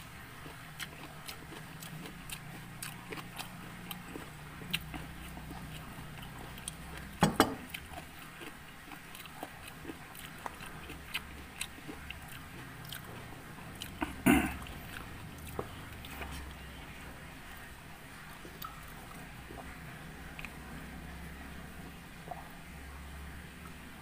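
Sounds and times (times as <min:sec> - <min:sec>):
person chewing food: 0:00.0 - 0:20.8.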